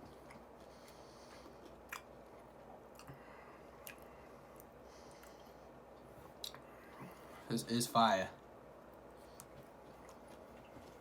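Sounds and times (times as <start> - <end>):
faint chewing: 0.0 - 7.3, 8.9 - 11.0.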